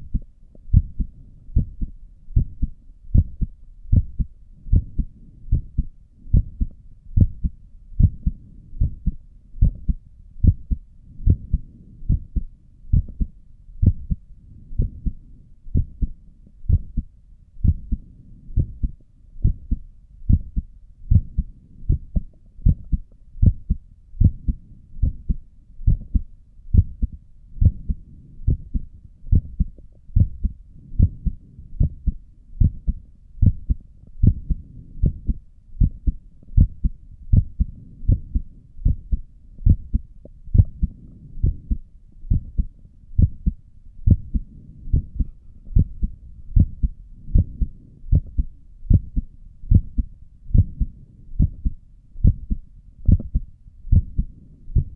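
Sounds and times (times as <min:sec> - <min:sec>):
heartbeat through a stethoscope: 0:00.0 - 0:54.9.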